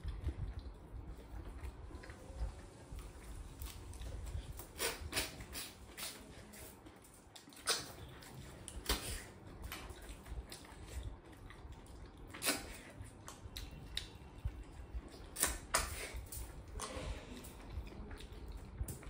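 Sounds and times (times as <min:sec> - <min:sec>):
wet chewing and mouth smacks: 0:00.0 - 0:19.0.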